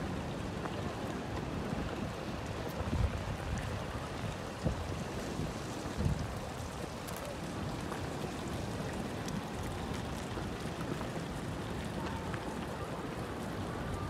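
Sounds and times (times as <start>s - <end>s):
storm wind rumbling on microphone: 0.0s - 14.0s.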